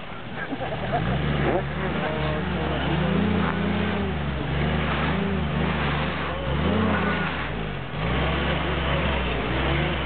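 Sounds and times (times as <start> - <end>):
jeep engine revving: 0.6 - 10.0.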